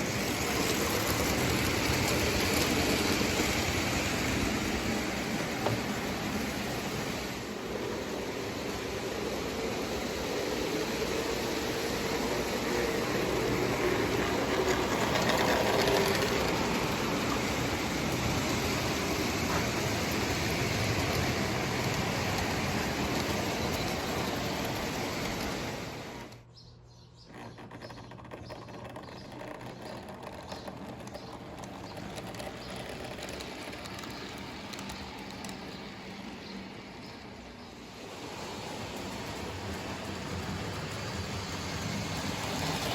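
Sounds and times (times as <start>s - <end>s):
toy train whirring and rattling: 0.0s - 26.4s, 27.3s - 42.9s.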